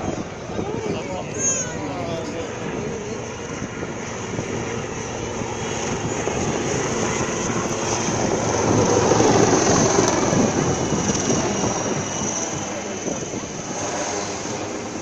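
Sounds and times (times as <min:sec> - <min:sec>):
helicopters flying overhead: 0:00.0 - 0:15.0.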